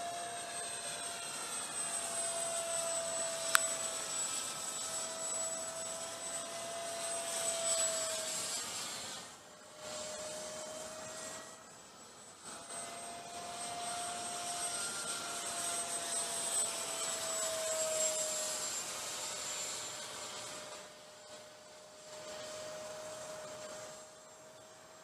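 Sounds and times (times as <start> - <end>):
model jet fan whining: 0.0 - 25.0.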